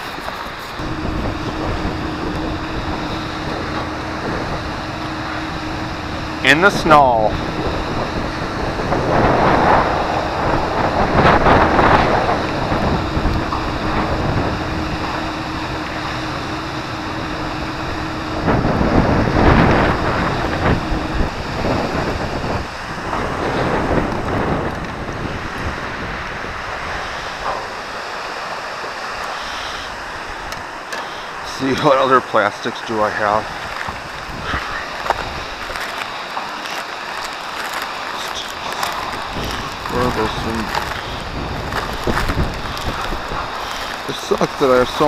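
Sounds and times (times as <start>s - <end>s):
wind buffeting microphone: 0.7s - 28.3s, 33.0s - 45.0s.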